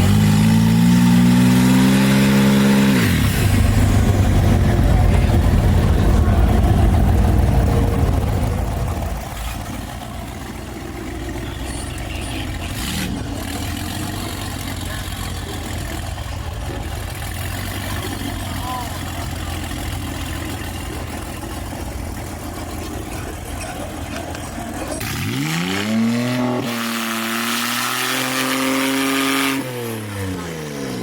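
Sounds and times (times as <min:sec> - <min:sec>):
engine idling: 0:00.0 - 0:25.6
turbocharged engine revving: 0:00.0 - 0:31.0.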